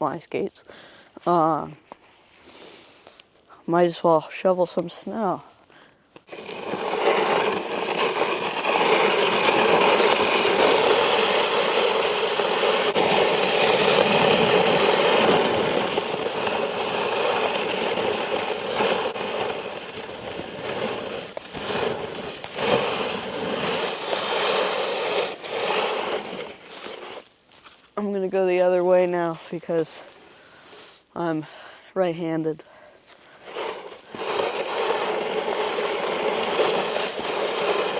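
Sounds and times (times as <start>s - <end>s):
snow shovel scraping ice: 6.2s - 31.4s, 32.0s - 37.9s.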